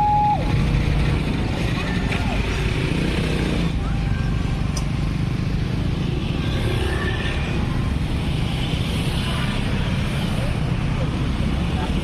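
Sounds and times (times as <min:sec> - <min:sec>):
road noise: 0:00.0 - 0:12.0
vehicle engines rumbling: 0:00.0 - 0:12.0.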